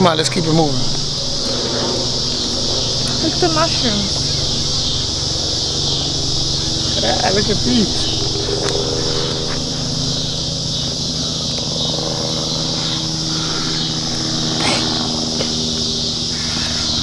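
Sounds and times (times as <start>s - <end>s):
helicopter engine and rotor drone: 0.0s - 17.0s
insects buzzing: 0.0s - 17.0s.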